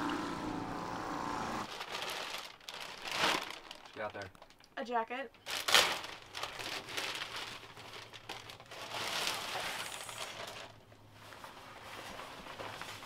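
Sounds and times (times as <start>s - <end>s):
jacket and packaging rustling: 1.7s - 4.7s, 5.4s - 13.0s.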